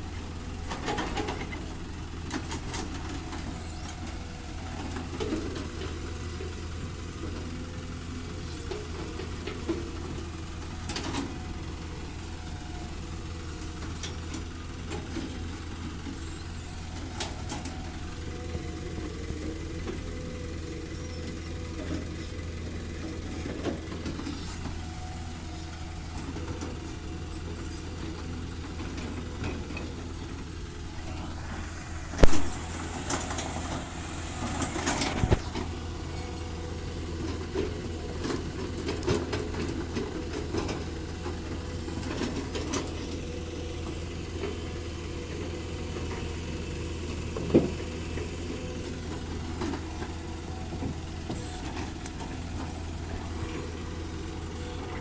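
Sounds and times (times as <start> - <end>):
excavator diesel engine humming: 0.0 - 55.0.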